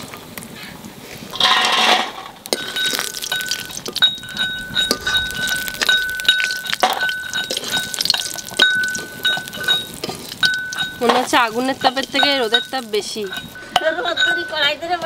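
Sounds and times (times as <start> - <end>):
steel spoon scraping and clinking: 1.4 - 14.6.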